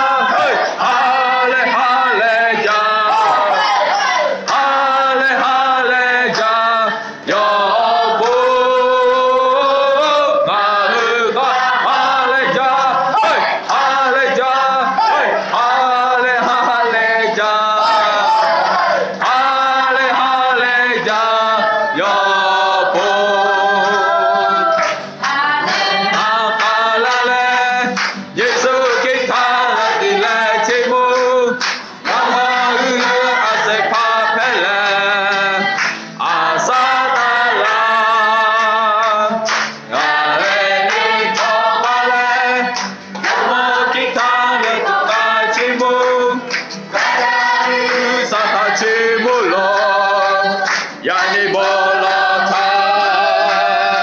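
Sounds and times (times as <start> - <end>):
acoustic guitar: 0.0 - 54.0
congregation singing a worship song: 0.0 - 54.0.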